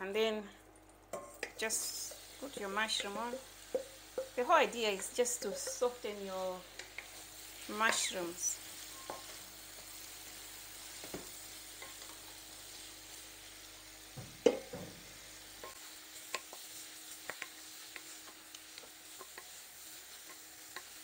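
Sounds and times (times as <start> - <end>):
mushrooms sizzling in oil: 0.0 - 21.0.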